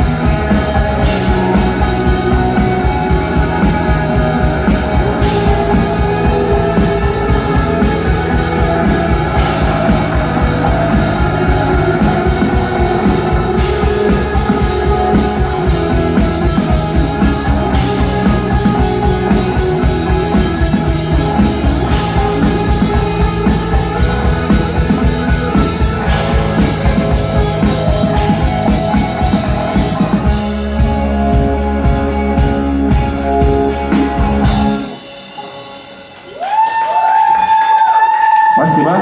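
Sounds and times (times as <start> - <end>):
rock drum kit: 0.0 - 39.0
rock guitar: 0.0 - 39.0.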